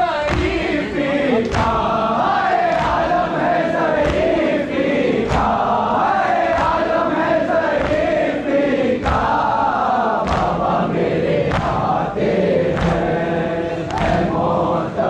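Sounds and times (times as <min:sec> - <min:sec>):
crowd of men chanting: 0:00.0 - 0:15.0
sharp rhythmic beat: 0:00.0 - 0:15.0.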